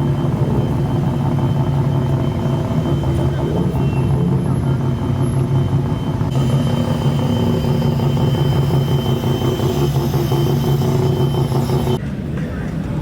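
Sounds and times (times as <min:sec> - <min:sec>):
car engine droning at low revs: 0:00.0 - 0:12.9.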